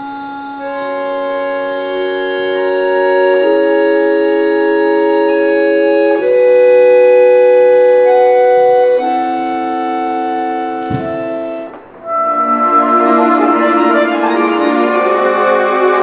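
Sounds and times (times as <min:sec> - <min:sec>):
accordion playing sustained chords: 0:00.7 - 0:16.0.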